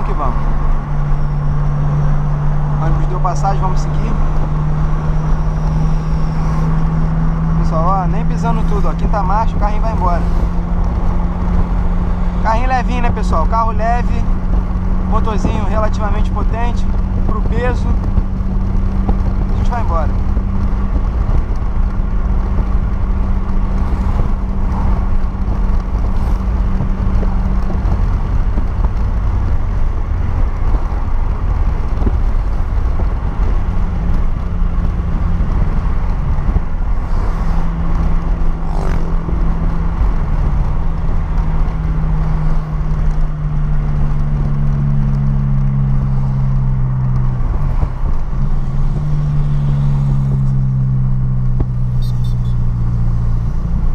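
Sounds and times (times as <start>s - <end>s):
car engine droning: 0.0s - 53.9s
tyre and road noise: 0.0s - 53.9s.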